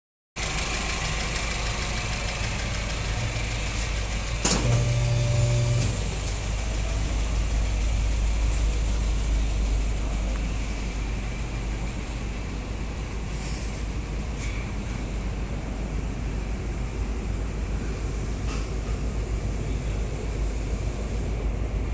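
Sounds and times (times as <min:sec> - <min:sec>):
car engine idling: 0:00.4 - 0:21.9.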